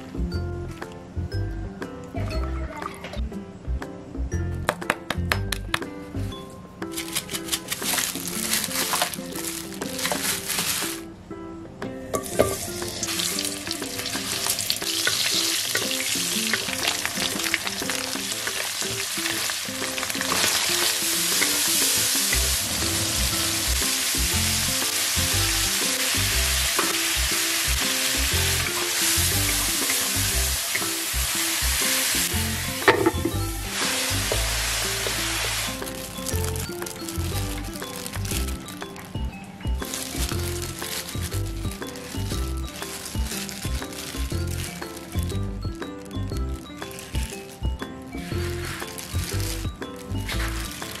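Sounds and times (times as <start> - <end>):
background music with a beat: 0.0 - 51.0
crayfish sizzling in hot oil: 7.0 - 11.0, 12.2 - 39.1, 39.8 - 47.6, 48.2 - 51.0.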